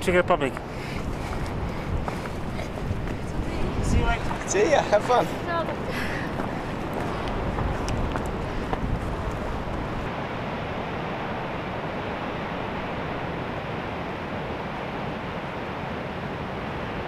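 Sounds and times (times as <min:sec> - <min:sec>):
wind buffeting microphone: 0:00.0 - 0:13.8
wind: 0:00.0 - 0:17.0
surf: 0:00.1 - 0:17.0.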